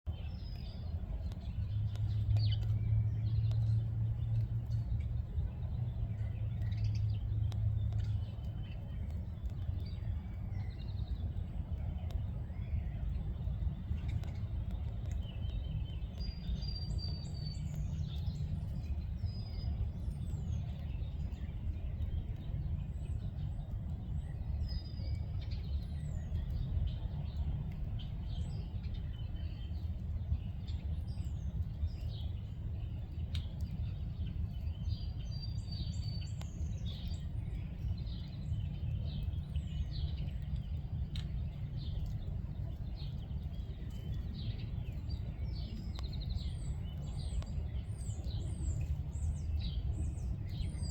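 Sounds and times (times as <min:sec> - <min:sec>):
low rumble: 0:00.1 - 0:50.9
songbirds chirping: 0:00.1 - 0:50.9.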